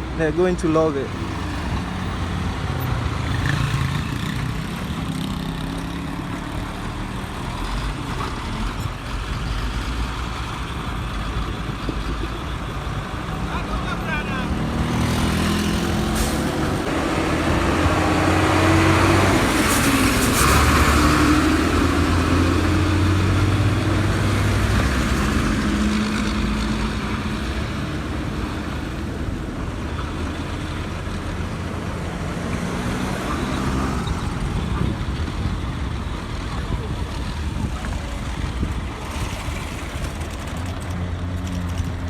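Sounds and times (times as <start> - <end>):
traffic hum: 0.0 - 42.0
vehicle engines passing: 0.0 - 42.0.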